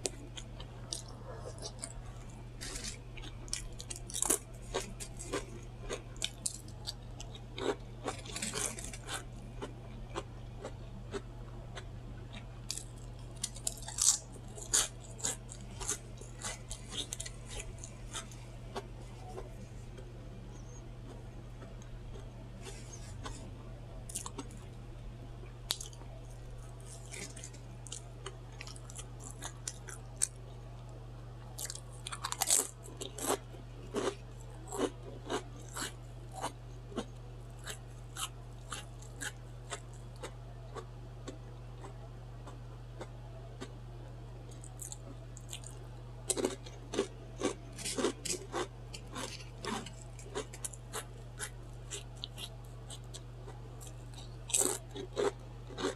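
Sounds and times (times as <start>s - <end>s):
crunching bites: 0.0s - 11.2s, 12.3s - 23.5s, 24.1s - 24.6s, 25.6s - 30.4s, 31.6s - 43.1s, 44.5s - 55.9s
chewing and lip-smacking: 0.0s - 23.5s, 24.1s - 24.7s, 25.6s - 30.6s, 31.5s - 43.7s, 44.5s - 55.9s.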